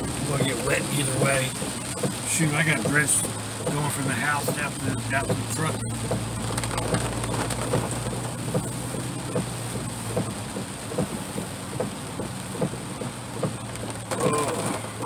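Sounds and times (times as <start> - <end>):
heavy rain on a vehicle roof: 0.0 - 15.0
idling engine hum: 0.0 - 15.0.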